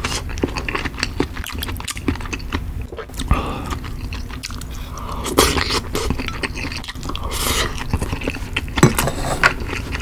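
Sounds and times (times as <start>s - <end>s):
wet chewing and smacking: 0.0s - 10.0s.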